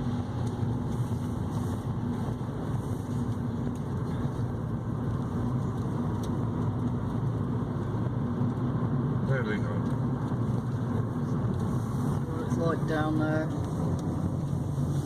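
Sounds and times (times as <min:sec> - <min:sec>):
car engine and tyre drone: 0:00.0 - 0:15.0.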